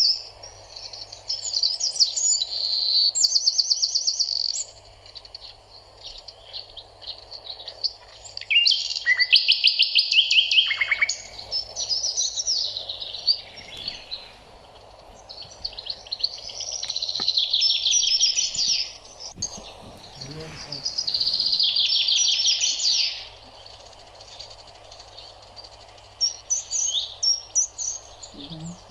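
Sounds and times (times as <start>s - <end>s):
birds singing in trills and chirps: 0.0s - 28.9s.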